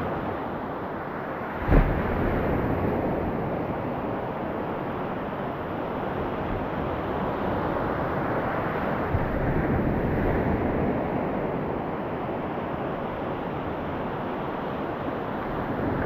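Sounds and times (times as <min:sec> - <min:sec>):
sea waves and surf: 0:00.0 - 0:16.0.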